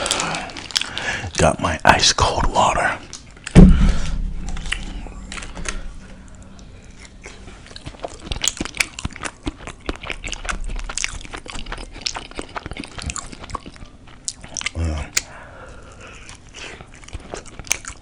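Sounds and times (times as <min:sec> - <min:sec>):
biting and chewing food: 0:00.0 - 0:01.1, 0:03.0 - 0:18.0.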